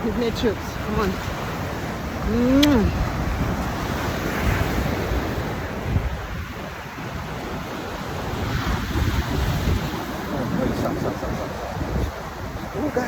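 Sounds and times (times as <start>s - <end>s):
ocean surf washing on shore: 0.0s - 13.0s
wind buffeting microphone: 0.0s - 13.0s.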